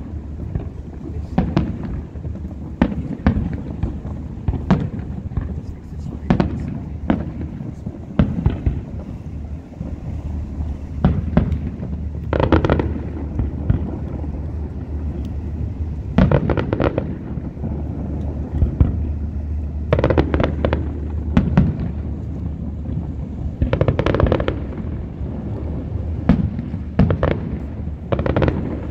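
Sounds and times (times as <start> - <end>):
fireworks bursting: 0.0 - 28.9
low rumble: 0.0 - 28.9.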